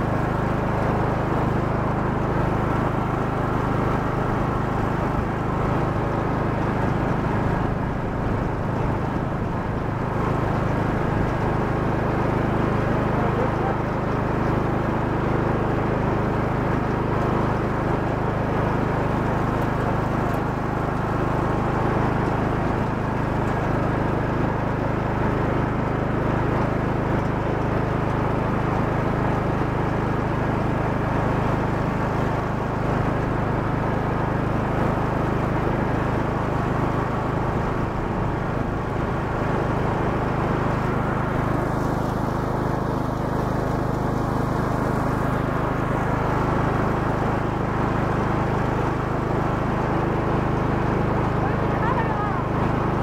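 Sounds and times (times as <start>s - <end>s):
riding lawn mower engine running: 0.0s - 53.0s.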